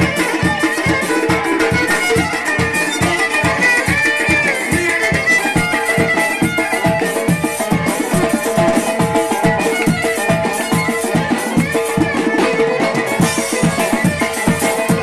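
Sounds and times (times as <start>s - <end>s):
drums beating: 0.0s - 15.0s
reedy wind melody: 0.0s - 15.0s.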